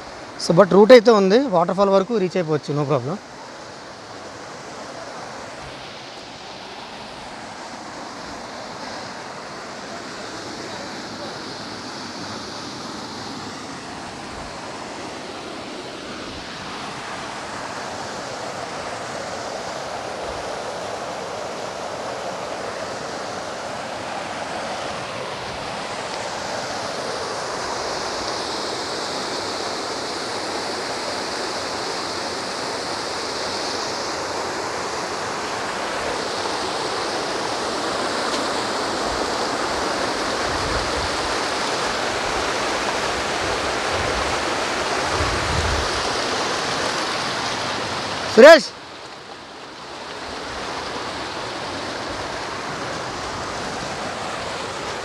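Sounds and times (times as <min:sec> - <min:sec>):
stream and waterfall rushing: 0:00.0 - 0:55.0.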